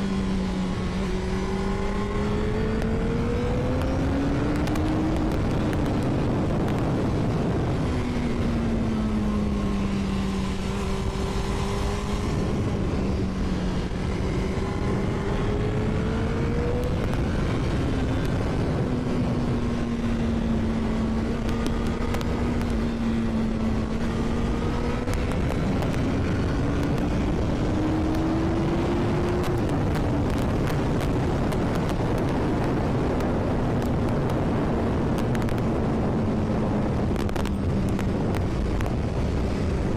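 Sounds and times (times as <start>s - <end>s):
heavy wind rush: 0.0s - 39.9s
motorcycle engine revving: 0.0s - 39.9s.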